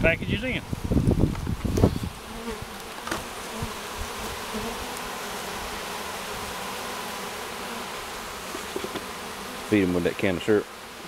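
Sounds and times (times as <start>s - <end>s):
honey bees buzzing: 0.2s - 11.0s.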